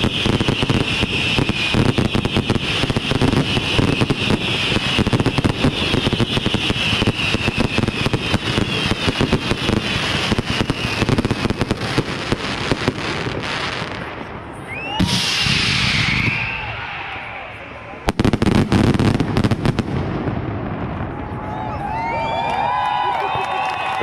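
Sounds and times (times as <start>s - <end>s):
loud firework burst: 0.0s - 21.3s
fireworks crackling: 0.0s - 22.0s
whistling fireworks: 0.0s - 24.0s.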